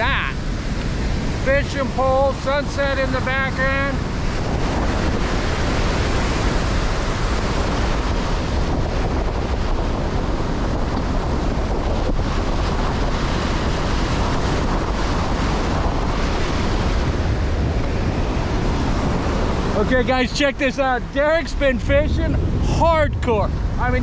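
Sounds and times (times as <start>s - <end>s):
ocean waves breaking on beach: 0.0s - 24.0s
wind buffeting microphone: 0.0s - 24.0s.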